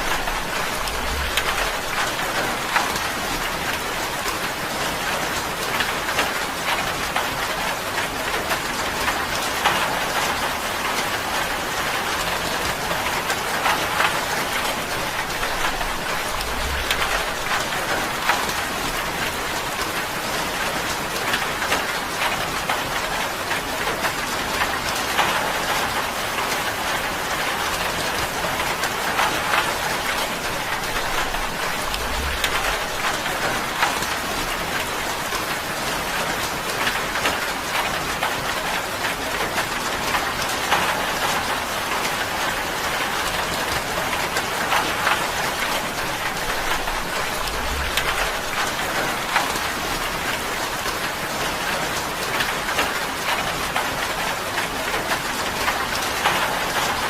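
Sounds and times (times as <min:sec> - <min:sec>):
rain drumming on a tin roof: 0:00.0 - 0:57.0.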